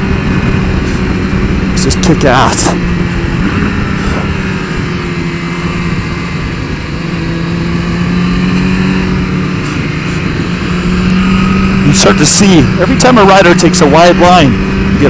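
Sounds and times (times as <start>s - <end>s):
motorcycle engine revving: 0.0s - 15.0s
wind rush: 0.0s - 15.0s.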